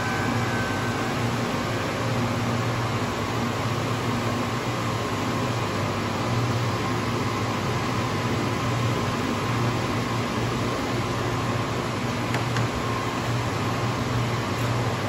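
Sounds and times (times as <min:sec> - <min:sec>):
soft serve machine humming: 0:00.0 - 0:15.0.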